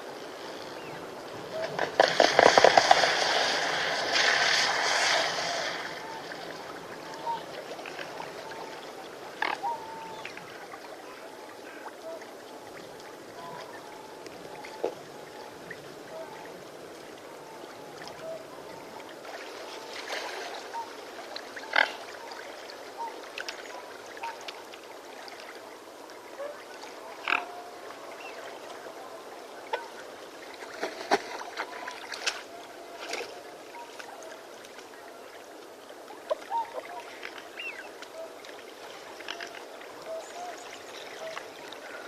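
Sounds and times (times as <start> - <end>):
flowing water: 0.0 - 42.0.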